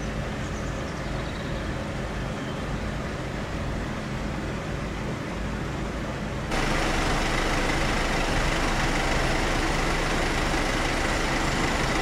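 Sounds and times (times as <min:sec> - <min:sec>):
ambulance engines idling: 0:00.0 - 0:12.0.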